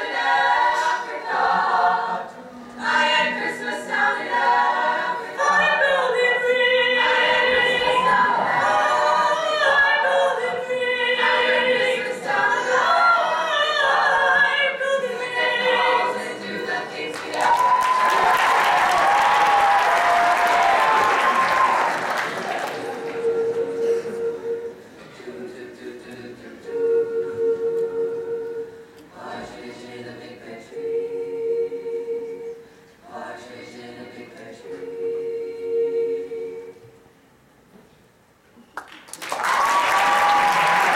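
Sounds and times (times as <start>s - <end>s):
choir singing held chords: 0.0s - 37.2s.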